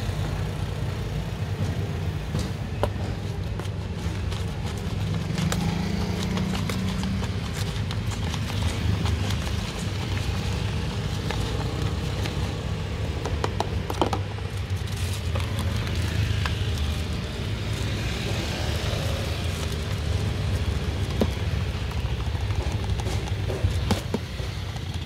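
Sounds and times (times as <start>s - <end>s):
street traffic rumble: 0.0s - 25.0s
plastic tub and bag rustling: 2.4s - 25.0s.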